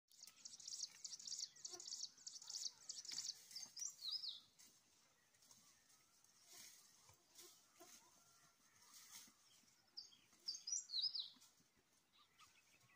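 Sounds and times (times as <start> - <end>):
small birds chirping: 0.1 - 12.9.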